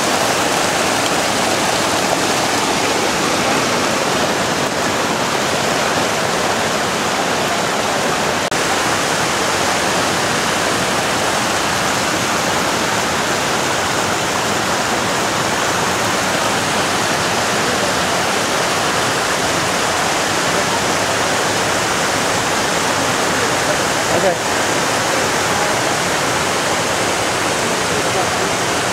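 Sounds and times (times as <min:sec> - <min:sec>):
water rushing over boulders: 0:00.0 - 0:28.9.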